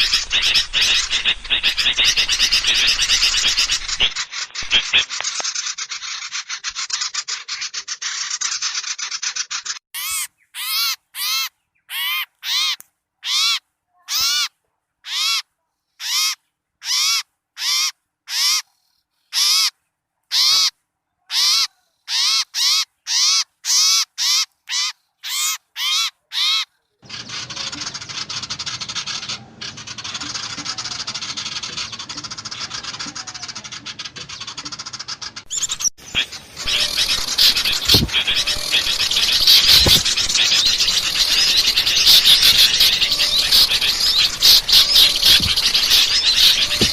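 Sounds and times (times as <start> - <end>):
small birds chattering: 0.0 - 14.5, 21.3 - 46.9
harsh bird calls: 0.0 - 15.4, 21.3 - 46.9.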